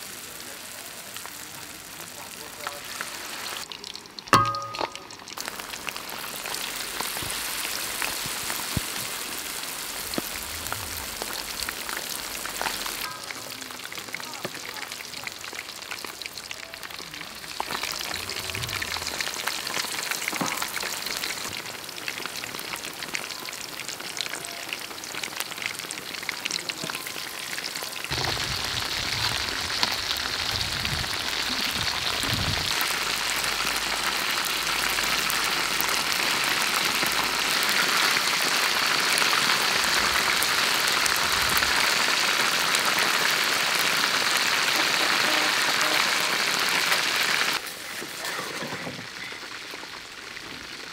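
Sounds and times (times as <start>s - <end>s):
deep-frying sizzle in hot oil: 0.0s - 50.9s.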